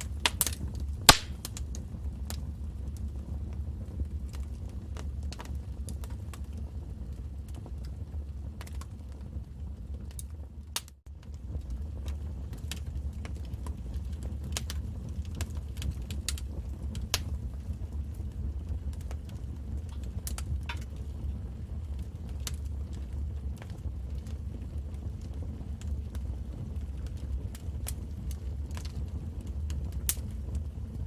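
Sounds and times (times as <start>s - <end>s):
fire crackling and popping: 0.0s - 31.0s
low rumble of flames: 0.0s - 31.0s.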